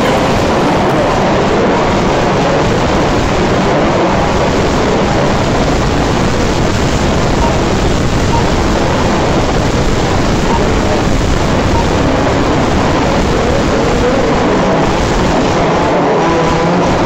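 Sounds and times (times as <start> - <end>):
rc cars racing: 0.0 - 17.0.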